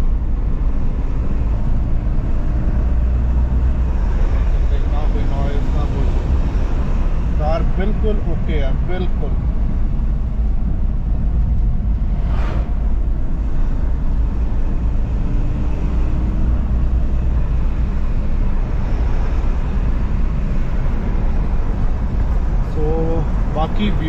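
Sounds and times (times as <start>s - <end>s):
diesel engine rumble: 0.0s - 24.0s
road noise: 0.0s - 24.0s.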